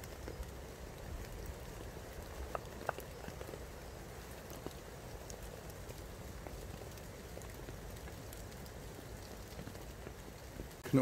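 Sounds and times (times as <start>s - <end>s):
heavy rain on a tarp: 0.0s - 11.0s.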